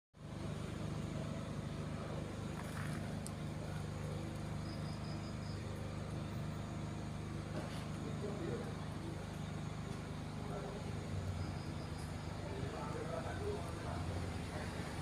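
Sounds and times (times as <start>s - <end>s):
low pulsing droning hum: 0.2s - 15.0s.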